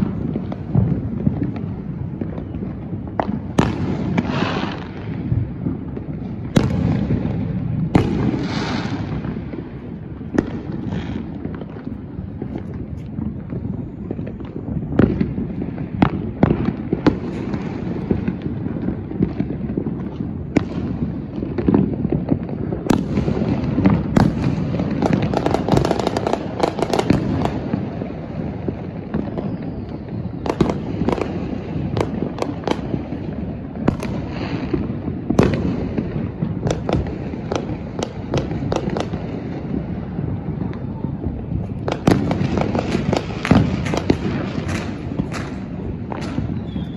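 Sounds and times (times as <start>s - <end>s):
distant firework bangs: 0.0s - 46.9s
firework pops and crackles: 0.0s - 46.9s.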